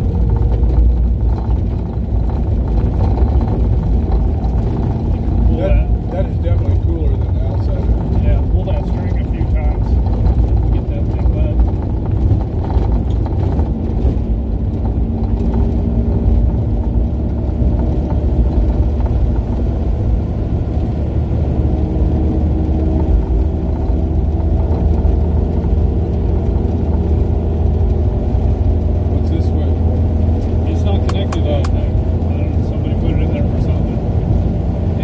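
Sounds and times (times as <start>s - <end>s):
car engine droning: 0.0s - 35.0s
road noise: 0.0s - 35.0s.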